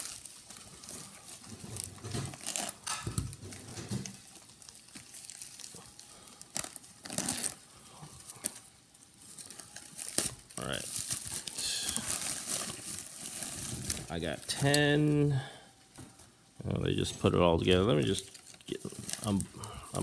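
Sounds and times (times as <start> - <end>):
plastic mailer crinkling: 0.0 - 15.3, 17.6 - 20.0.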